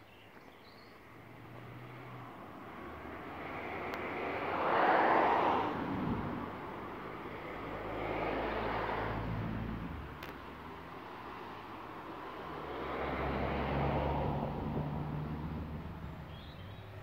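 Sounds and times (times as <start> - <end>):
engine passing by: 1.1 - 17.0.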